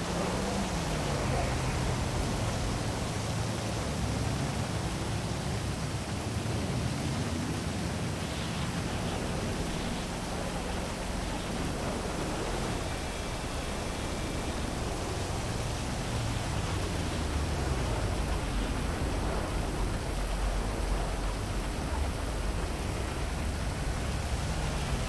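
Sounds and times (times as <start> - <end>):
city traffic hum: 0.0 - 25.0
heavy rain hissing: 0.0 - 25.0.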